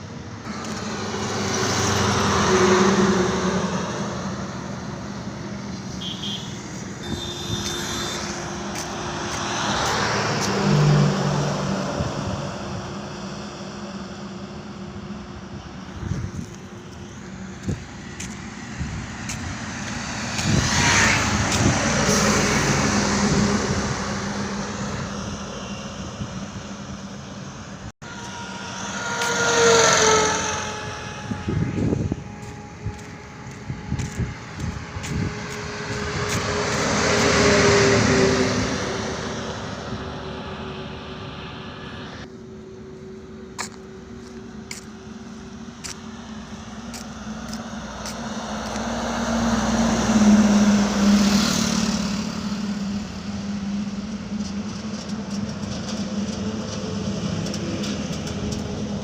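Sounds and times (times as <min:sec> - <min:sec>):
trucks and cars passing: 0:00.0 - 0:59.0.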